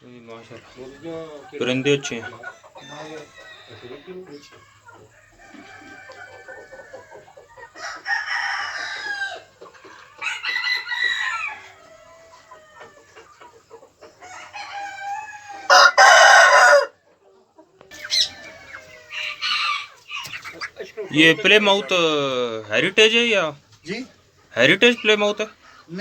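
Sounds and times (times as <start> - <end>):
hens clucking: 0.1 - 26.0
roosters crowing: 0.4 - 13.2, 14.1 - 17.1, 17.9 - 23.5.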